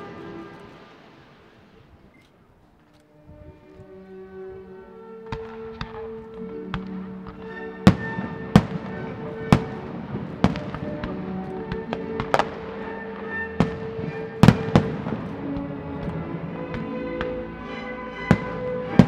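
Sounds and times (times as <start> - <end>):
music playing: 0.0 - 1.5, 3.0 - 19.0.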